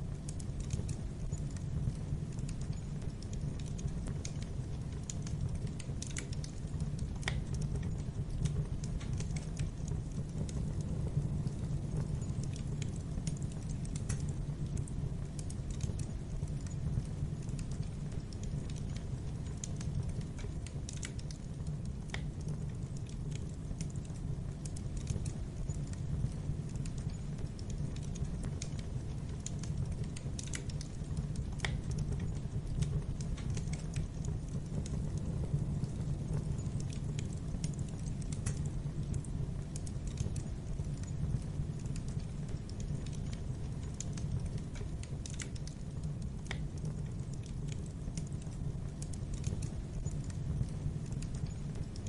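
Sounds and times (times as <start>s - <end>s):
fire crackles and pops: 0.0s - 52.0s
low rumble of flames: 0.0s - 52.0s.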